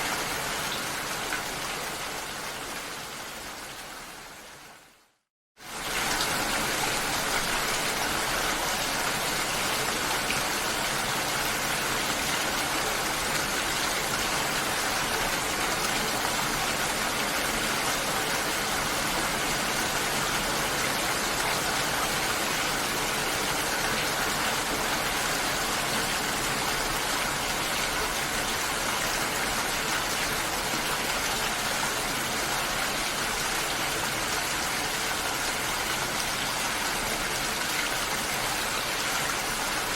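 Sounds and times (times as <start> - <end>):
rushing water: 0.0 - 5.0, 5.6 - 39.9.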